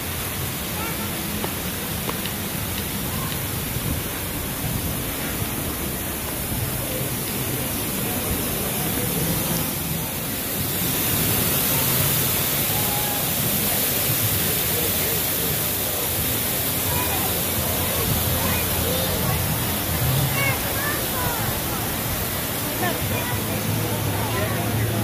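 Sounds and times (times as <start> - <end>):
water rushing along concrete channel: 0.0 - 25.0.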